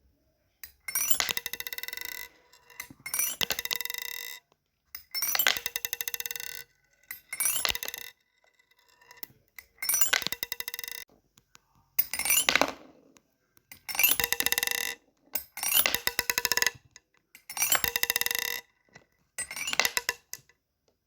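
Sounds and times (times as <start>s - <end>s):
metal fidget toy clicking: 0.6s - 11.1s, 12.0s - 20.6s.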